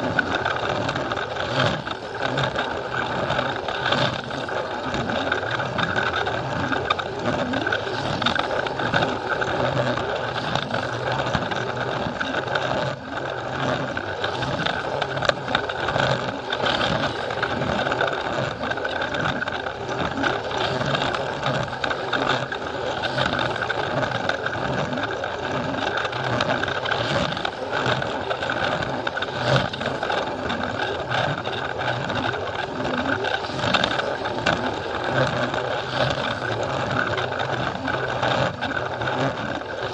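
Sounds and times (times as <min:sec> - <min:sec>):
toy train motor whirring: 0:00.0 - 0:39.9
wheels clicking and rattling on track: 0:00.0 - 0:39.9.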